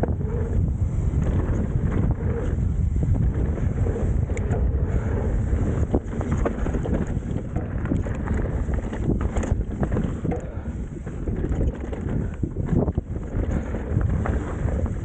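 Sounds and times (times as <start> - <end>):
bike knocking and rattling: 0.0 - 15.0
tyres rumbling on dirt: 0.0 - 15.0
wind buffeting microphone: 0.0 - 15.0.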